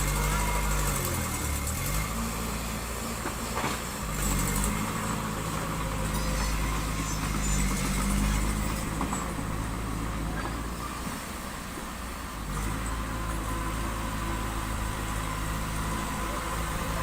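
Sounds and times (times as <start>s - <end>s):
heavy diesel engine revving: 0.0s - 17.0s.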